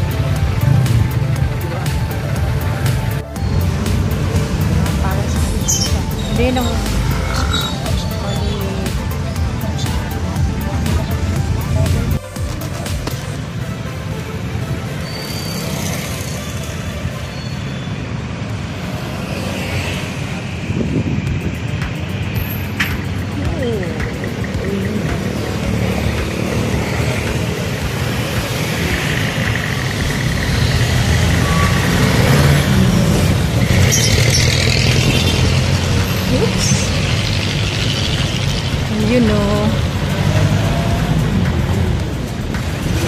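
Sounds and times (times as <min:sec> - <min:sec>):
vehicle engine and road noise: 0:00.0 - 0:43.0.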